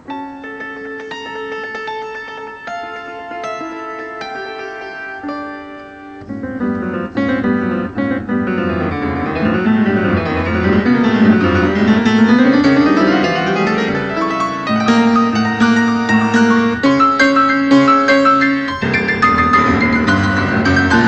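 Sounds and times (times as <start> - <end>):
piano rapid notes: 0.0 - 21.0.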